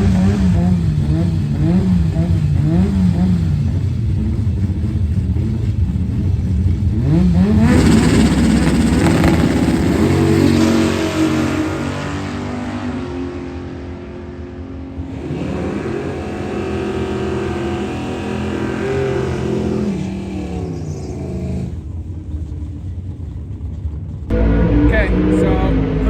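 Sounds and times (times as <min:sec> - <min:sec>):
racing car engine accelerating: 0:00.0 - 0:22.0, 0:24.3 - 0:26.0.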